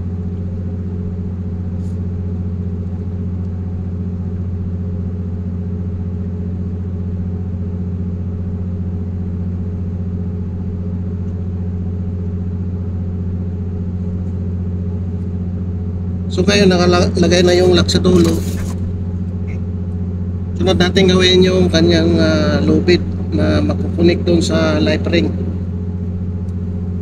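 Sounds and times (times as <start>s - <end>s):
ship engine droning: 0.0s - 27.0s.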